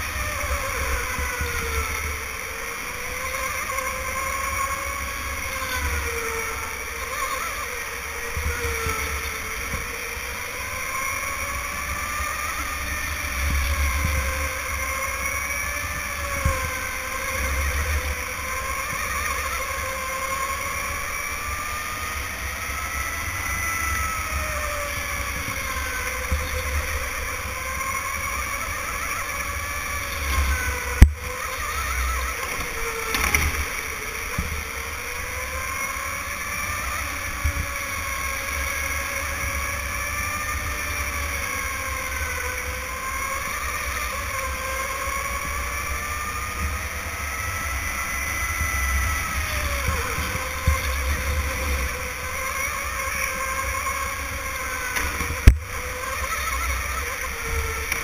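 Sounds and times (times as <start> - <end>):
electric go-kart motor whining: 0.0 - 58.0.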